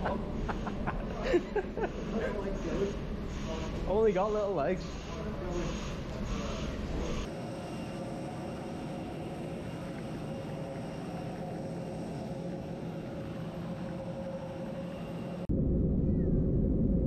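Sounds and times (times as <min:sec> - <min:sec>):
jet airliners whining: 0:00.0 - 0:15.5
constant high tone: 0:00.0 - 0:16.5.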